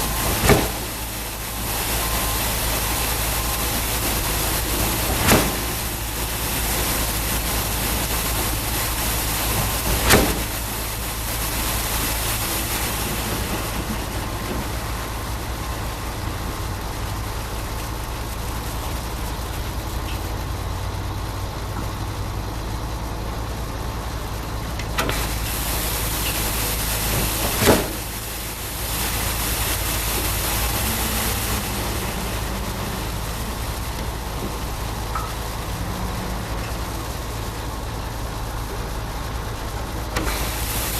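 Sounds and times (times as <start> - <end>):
even hiss: 0.0 - 21.1, 24.3 - 40.9
pump truck engine drone: 0.0 - 40.9.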